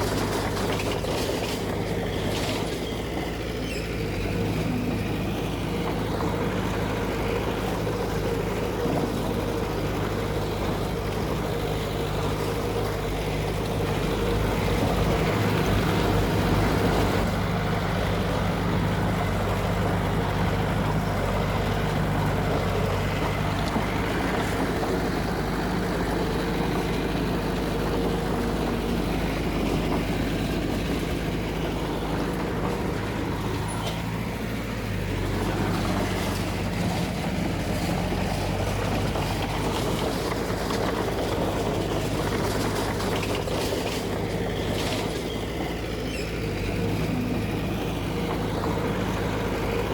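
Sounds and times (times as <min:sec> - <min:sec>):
earthmoving machine diesel engine: 0:00.0 - 0:49.9.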